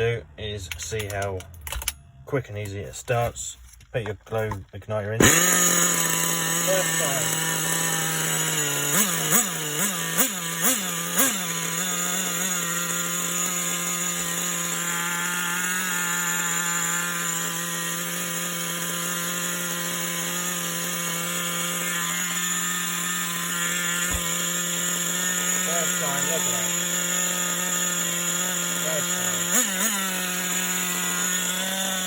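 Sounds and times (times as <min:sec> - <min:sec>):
nitro engine revving and idling: 0:00.0 - 0:32.0.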